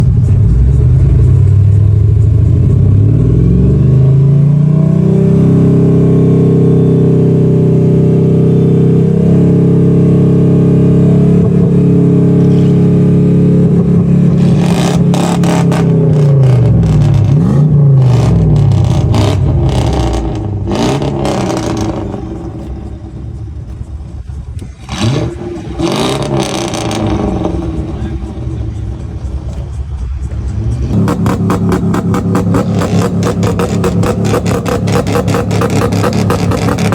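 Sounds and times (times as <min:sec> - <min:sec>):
car engine revving: 0:00.0 - 0:36.9
exhaust crackles: 0:00.0 - 0:36.9.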